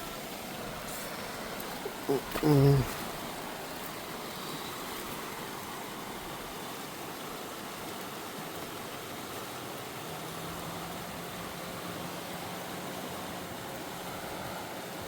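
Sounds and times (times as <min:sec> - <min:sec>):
fast river rushing: 0:00.0 - 0:15.0.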